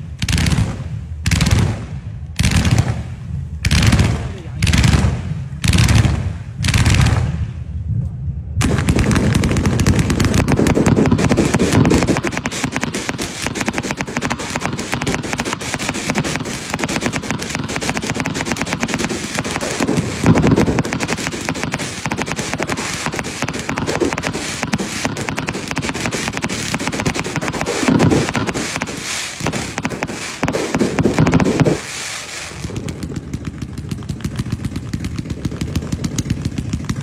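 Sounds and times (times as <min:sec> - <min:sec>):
rapid firecracker crackle: 0:00.0 - 0:07.7, 0:08.6 - 0:37.0
booming firework bursts: 0:00.0 - 0:37.0.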